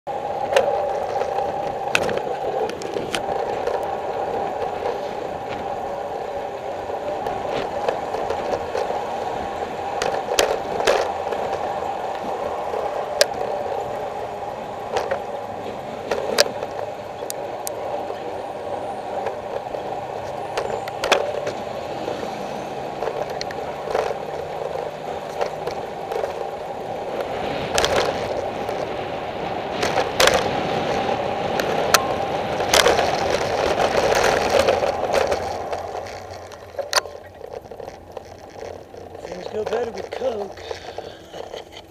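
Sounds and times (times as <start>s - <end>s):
bicycle road noise: 0.0s - 41.9s.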